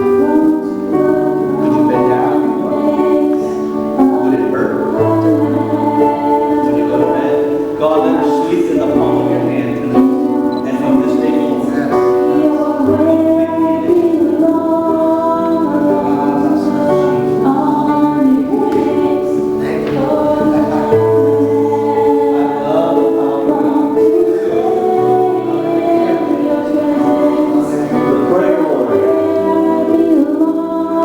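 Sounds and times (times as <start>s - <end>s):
choir singing sustained chords: 0.0s - 31.0s.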